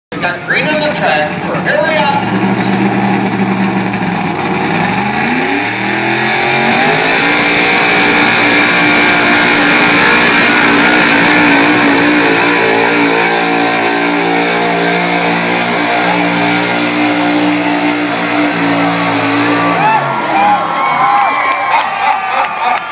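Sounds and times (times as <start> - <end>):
truck engine at full throttle: 0.1 - 22.9.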